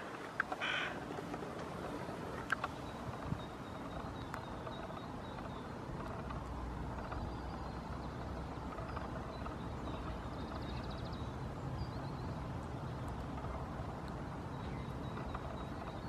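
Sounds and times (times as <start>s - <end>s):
distant road traffic rumble: 0.0s - 16.0s
small birds chirping: 0.0s - 16.0s.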